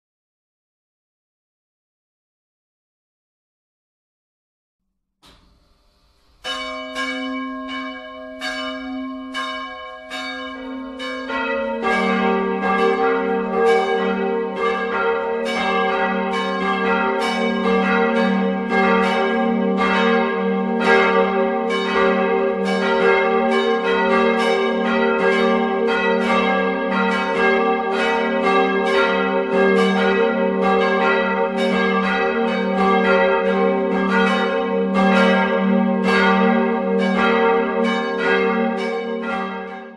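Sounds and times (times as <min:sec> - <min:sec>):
church bells ringing: 0:06.4 - 0:39.9.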